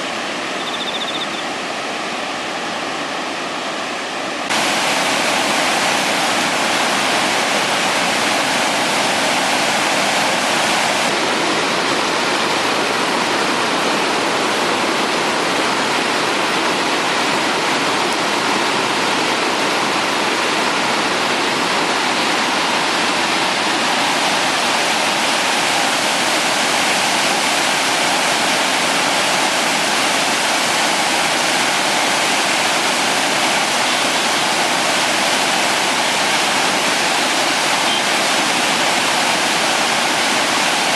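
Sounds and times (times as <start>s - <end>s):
flooded river rushing: 0.0s - 40.9s.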